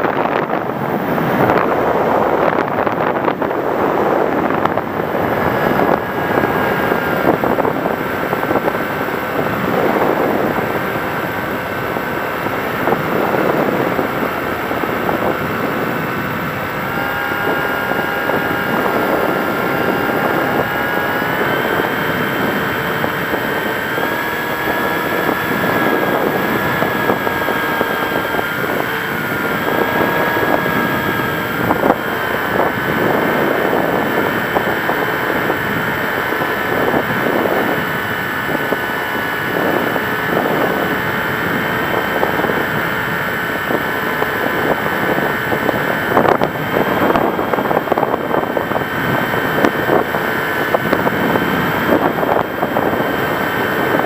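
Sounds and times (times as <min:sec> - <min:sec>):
model aircraft motor whining: 0:00.0 - 0:54.0
wind rush: 0:00.0 - 0:54.0.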